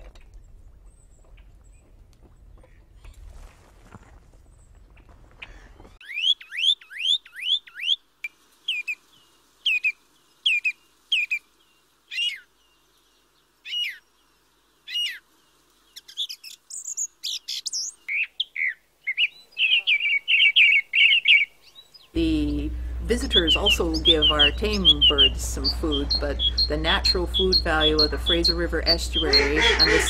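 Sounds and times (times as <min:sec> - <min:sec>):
small birds chirping: 0:04.4 - 0:30.0.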